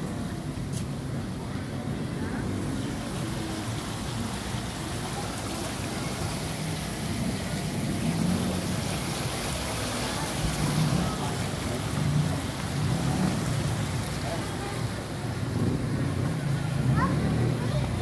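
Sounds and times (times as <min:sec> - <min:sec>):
street traffic hum: 0:00.0 - 0:18.0
water trickling and splashing: 0:00.0 - 0:18.0.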